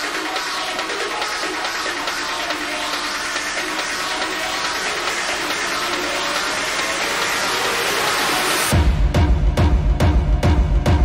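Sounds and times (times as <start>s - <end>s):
industrial techno music: 0.0s - 11.0s.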